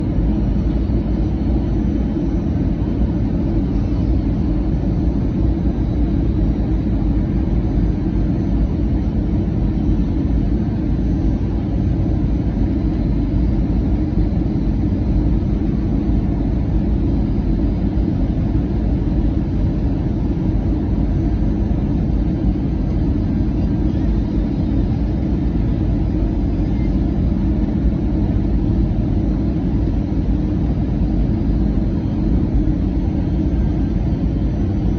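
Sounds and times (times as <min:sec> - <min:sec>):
airliner engines low rumble: 0:00.0 - 0:34.9.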